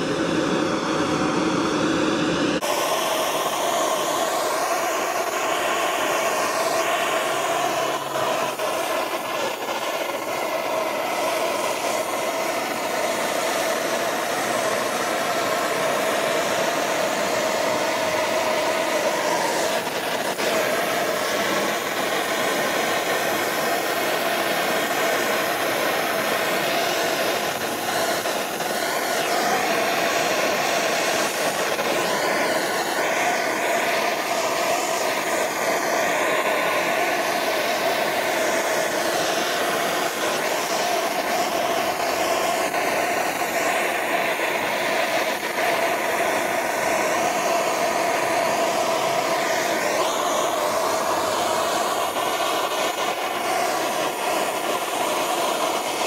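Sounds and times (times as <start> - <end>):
propane torch flame hissing: 0.0 - 56.0.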